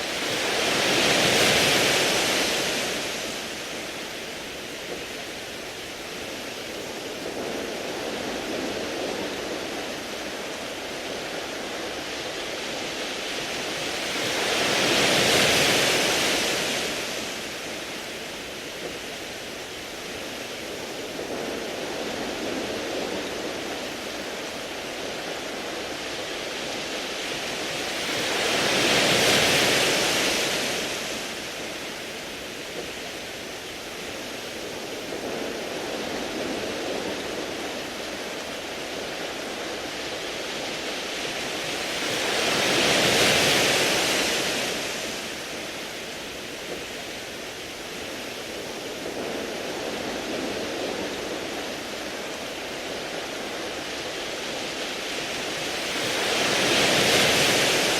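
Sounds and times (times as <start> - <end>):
waves washing over pebbles: 0.0 - 57.9.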